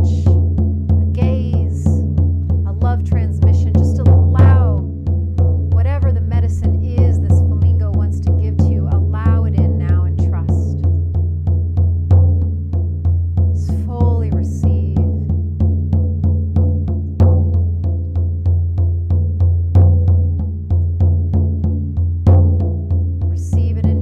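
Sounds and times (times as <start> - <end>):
frame drum beating: 0.0 - 24.0.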